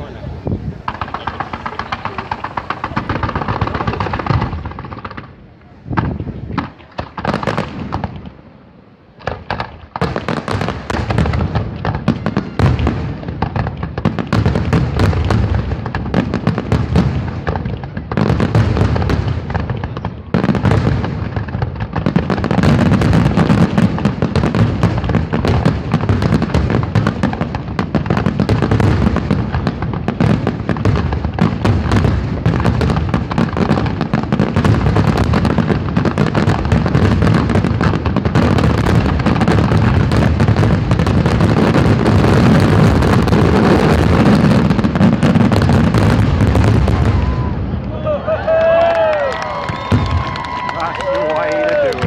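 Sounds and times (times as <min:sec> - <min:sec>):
fireworks bursting: 0:00.0 - 0:52.0.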